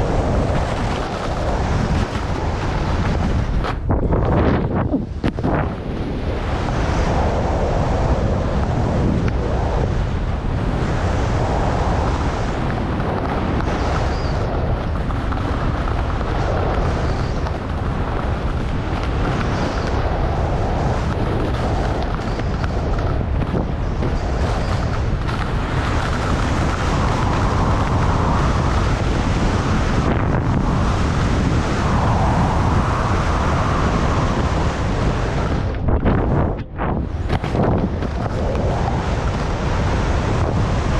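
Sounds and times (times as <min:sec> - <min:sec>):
skis scraping through snow: 0:00.0 - 0:40.9
wind buffeting microphone: 0:00.0 - 0:40.9.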